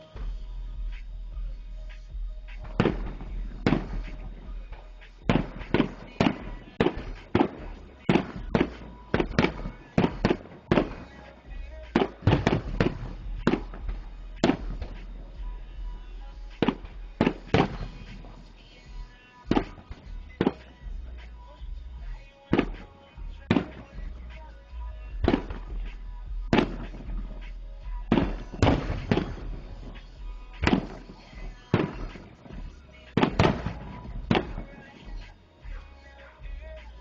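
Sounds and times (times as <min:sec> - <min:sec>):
fireworks bangs: 0:02.5 - 0:21.3, 0:22.1 - 0:24.3, 0:25.2 - 0:35.8.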